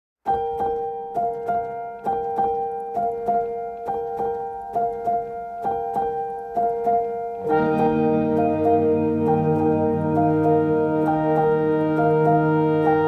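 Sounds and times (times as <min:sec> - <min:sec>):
gentle keyboard melody: 0:00.2 - 0:13.0.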